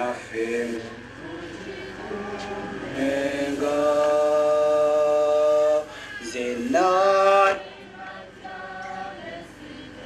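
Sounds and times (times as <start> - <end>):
people singing without instruments: 0.0 - 10.0.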